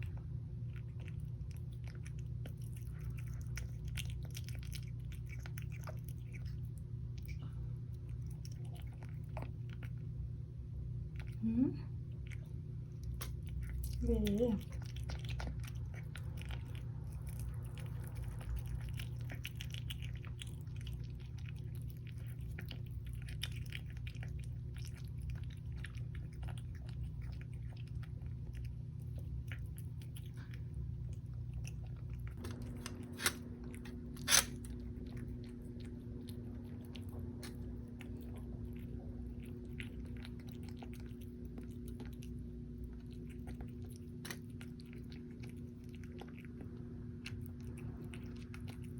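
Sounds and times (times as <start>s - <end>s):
kitten crunching food: 0.0s - 48.9s.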